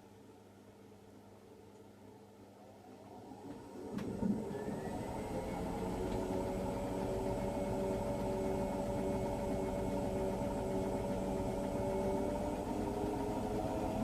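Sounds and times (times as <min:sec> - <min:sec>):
washing machine running: 0:02.5 - 0:14.0.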